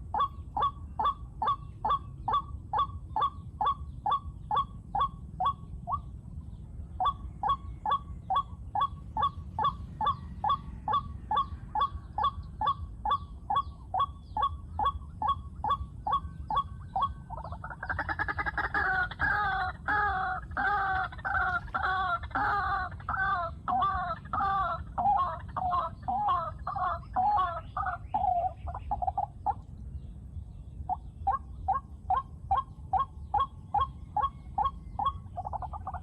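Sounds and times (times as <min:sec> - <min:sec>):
harsh croaking calls: 0:00.0 - 0:06.2, 0:06.9 - 0:29.7, 0:30.9 - 0:36.0
waterhen calling: 0:00.0 - 0:29.7, 0:30.9 - 0:36.0.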